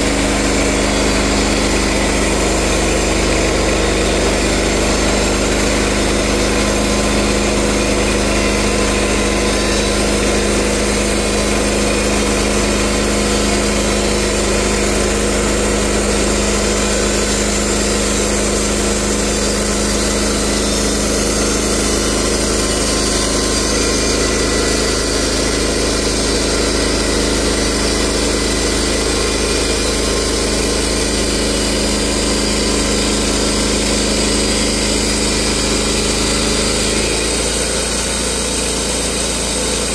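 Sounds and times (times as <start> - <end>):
band saw blade cutting log: 0.0 - 39.9
sawmill engine running: 0.0 - 39.9.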